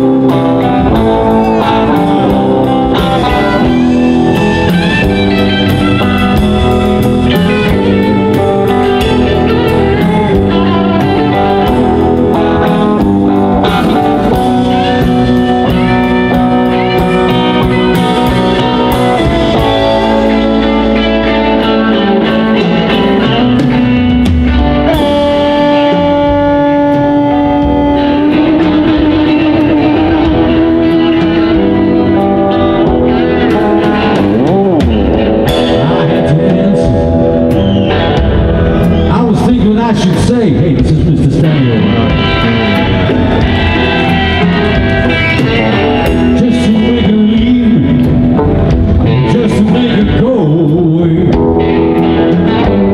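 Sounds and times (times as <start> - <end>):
drum kit: 0.0 - 52.9
electric guitars: 0.0 - 52.9
upright bass: 0.0 - 52.9.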